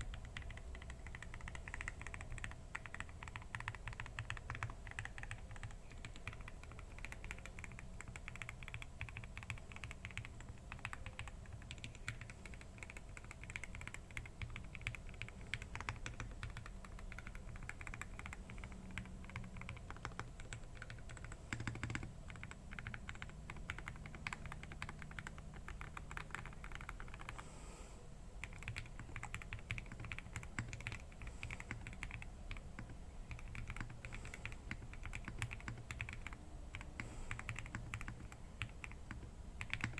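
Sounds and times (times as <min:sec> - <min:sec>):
fast mechanical keyboard typing: 0:00.0 - 0:27.4, 0:28.4 - 0:39.9.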